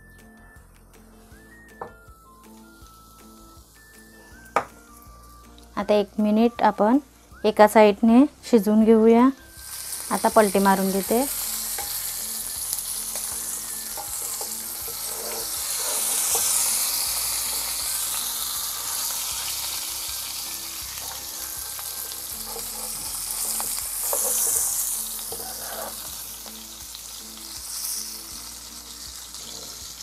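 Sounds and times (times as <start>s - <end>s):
fish sizzling in hot oil: 2.2s - 7.8s, 9.4s - 30.0s.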